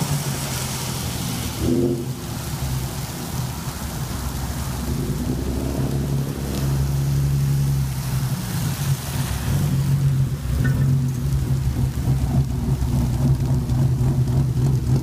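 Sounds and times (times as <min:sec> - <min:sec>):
car engine running: 0:00.0 - 0:15.0
tyres hissing on wet road: 0:00.0 - 0:15.0.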